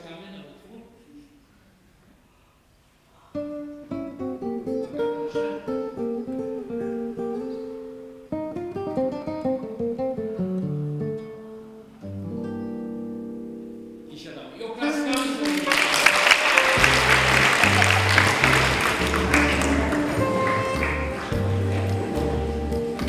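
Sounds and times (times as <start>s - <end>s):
acoustic guitar arpeggios: 3.4s - 14.1s, 15.2s - 23.0s.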